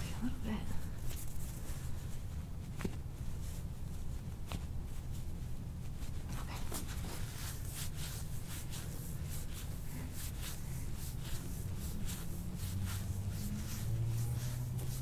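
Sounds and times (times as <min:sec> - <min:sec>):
paper towel crinkling under hands: 0:00.9 - 0:15.0.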